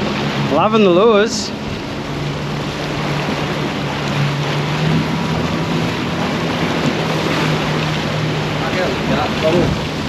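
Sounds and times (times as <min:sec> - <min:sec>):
outboard motor humming: 0:00.0 - 0:10.0
water noise: 0:00.0 - 0:10.0
wind: 0:00.0 - 0:10.0.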